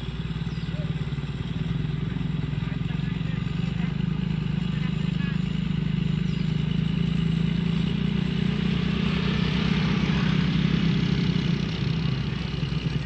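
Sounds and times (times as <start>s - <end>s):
engine running with low throb: 0.0s - 13.0s.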